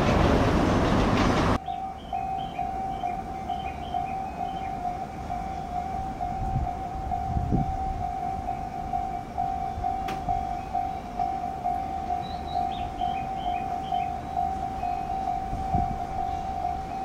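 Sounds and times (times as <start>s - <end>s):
level crossing warning bell: 1.6s - 17.0s.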